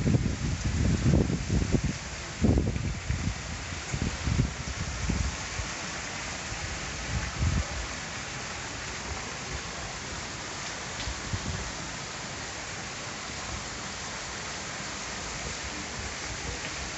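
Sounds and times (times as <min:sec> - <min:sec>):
rain hissing: 0:00.0 - 0:16.9.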